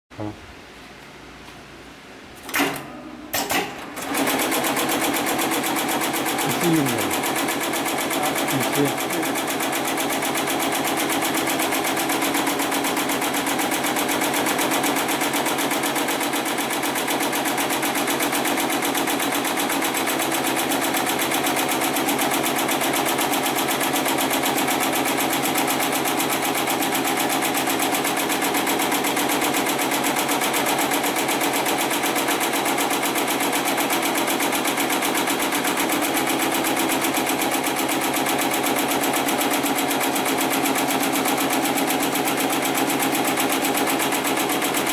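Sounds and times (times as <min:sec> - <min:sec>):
sewing machine stitching: 0:03.4 - 0:44.9.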